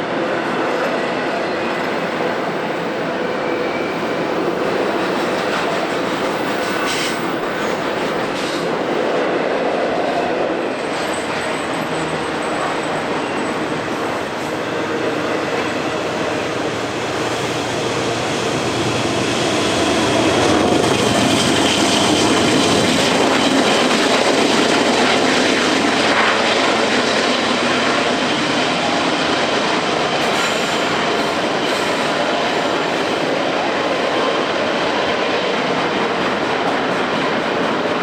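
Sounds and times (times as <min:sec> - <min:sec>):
freight train rolling on rails: 0:00.0 - 0:38.0.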